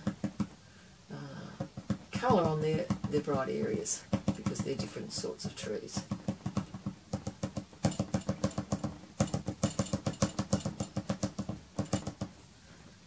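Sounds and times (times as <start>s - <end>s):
pastel stick tapping on paper: 0.0s - 0.6s, 1.6s - 12.4s.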